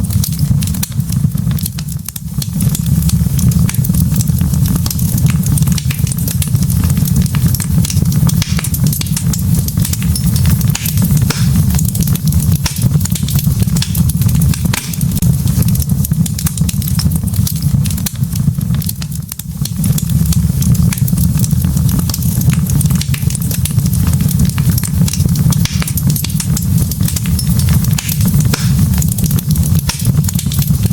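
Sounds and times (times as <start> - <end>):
fire crackles and pops: 0.0 - 30.9
fire low rumble: 0.0 - 30.9.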